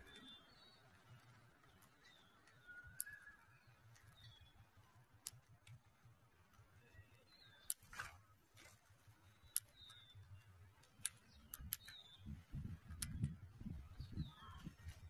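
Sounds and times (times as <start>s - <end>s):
faint bird chirps: 0.0s - 5.1s, 6.7s - 8.4s, 9.2s - 15.0s
birds pecking grain on gravel: 0.0s - 15.0s.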